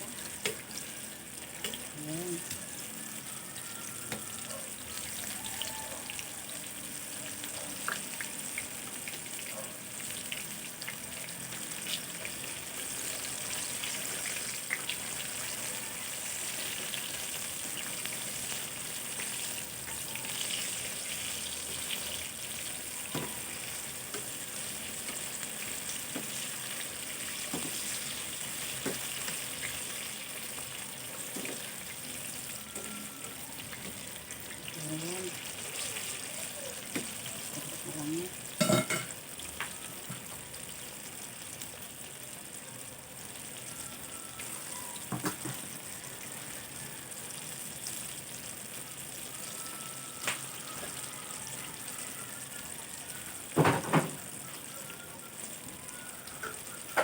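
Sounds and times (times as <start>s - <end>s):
food sizzling in oil: 0.0s - 57.0s.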